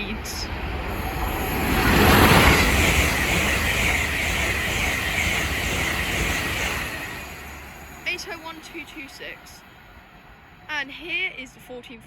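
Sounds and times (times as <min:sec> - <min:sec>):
train passing at speed: 0:00.0 - 0:11.6.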